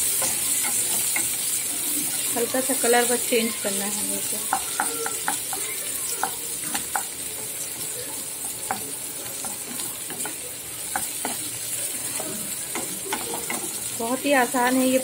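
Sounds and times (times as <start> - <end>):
spatula scraping a pan: 0.0 - 14.8
onions sizzling in oil: 0.0 - 15.0.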